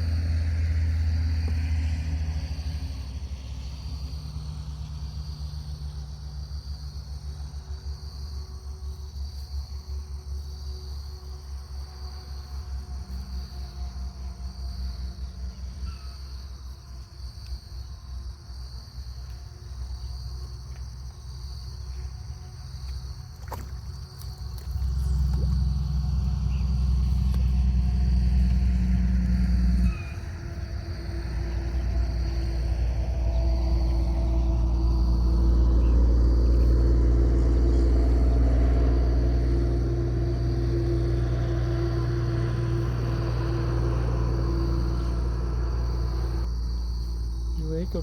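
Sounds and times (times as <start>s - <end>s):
highway traffic rumble: 0.0s - 48.0s
insects chirping: 0.0s - 48.0s.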